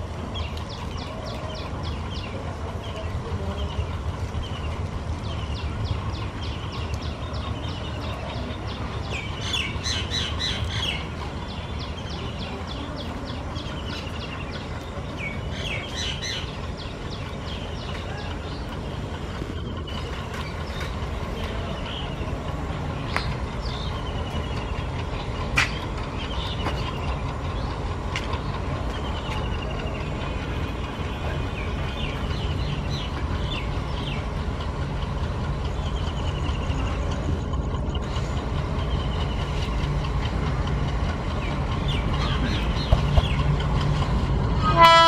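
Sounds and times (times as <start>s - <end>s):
diesel locomotive rumbling: 0.0s - 45.0s
birds chirping: 0.2s - 45.0s.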